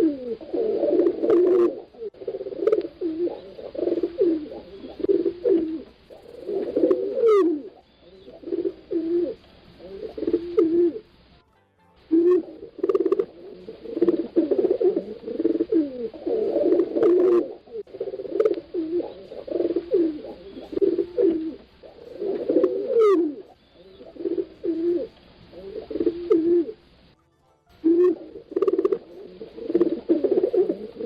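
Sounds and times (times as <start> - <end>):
pigeons cooing: 0.0 - 11.2, 12.1 - 27.0, 27.8 - 31.0.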